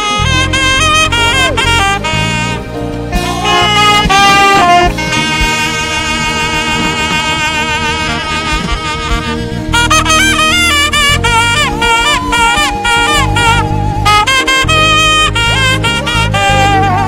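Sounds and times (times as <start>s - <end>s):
band accompaniment: 0.0s - 17.0s
saxophone melody: 0.0s - 17.0s.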